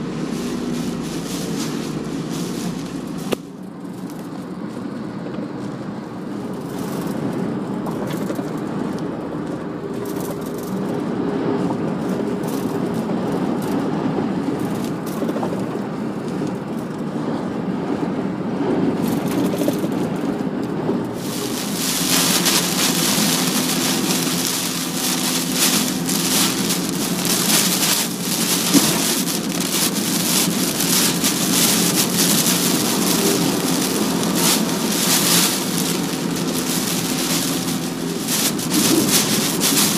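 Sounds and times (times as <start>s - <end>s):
car engine and road noise: 0.0s - 39.9s
wind-driven rain hissing on car: 0.0s - 39.9s.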